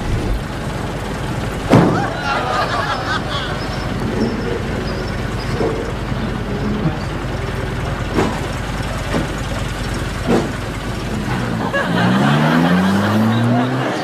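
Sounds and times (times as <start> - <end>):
vehicle engine idling and revving: 0.0 - 14.0.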